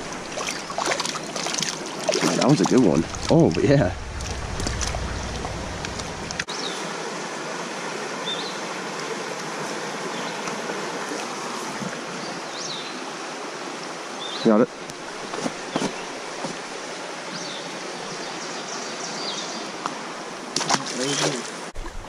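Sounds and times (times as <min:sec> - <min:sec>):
creek water running over rocks: 0:00.0 - 0:22.0.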